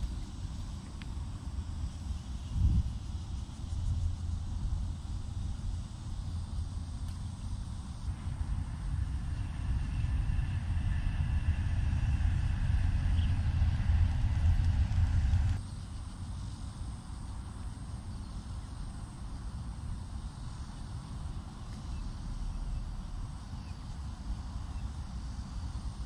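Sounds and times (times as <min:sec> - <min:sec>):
rumble of road traffic: 0:00.0 - 0:26.0.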